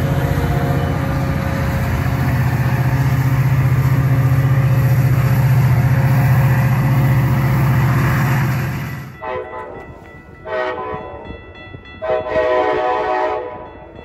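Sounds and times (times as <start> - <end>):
diesel locomotive engine droning: 0.0 - 14.0.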